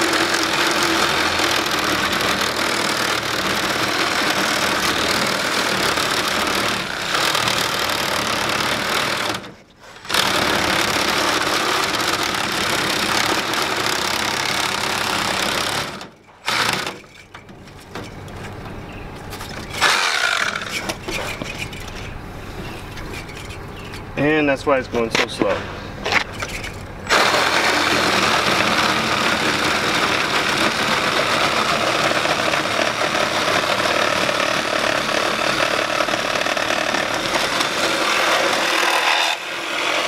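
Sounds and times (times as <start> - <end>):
reciprocating saw cutting copper tube: 0.0 - 17.4, 19.6 - 21.9, 26.4 - 40.0.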